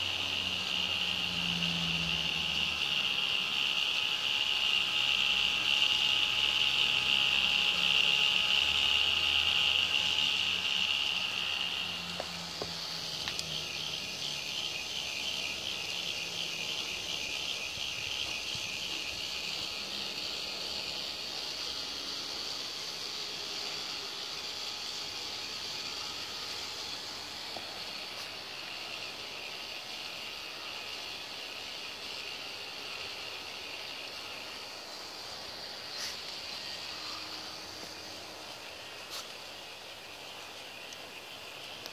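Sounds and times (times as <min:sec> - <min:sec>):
toy motors and gears whining: 0:00.0 - 0:41.9.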